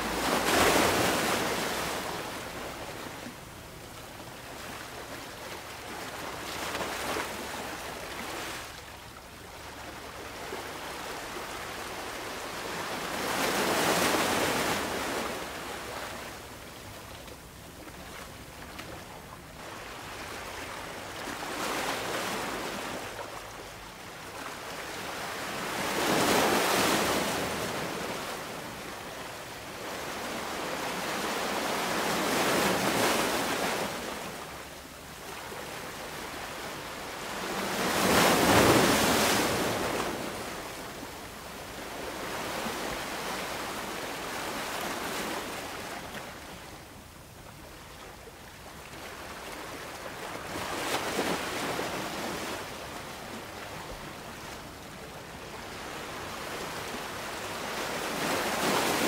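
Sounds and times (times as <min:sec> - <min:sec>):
ocean waves breaking on beach: 0:00.0 - 0:16.6, 0:19.5 - 0:46.9, 0:48.3 - 0:59.0.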